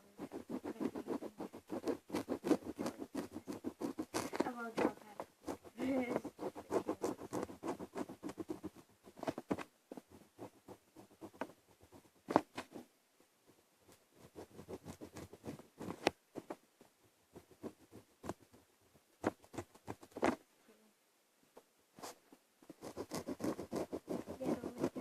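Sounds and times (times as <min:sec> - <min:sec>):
pen scratching on paper: 0:00.0 - 0:12.9, 0:13.9 - 0:16.6, 0:17.3 - 0:18.5, 0:19.2 - 0:20.4, 0:22.0 - 0:25.0.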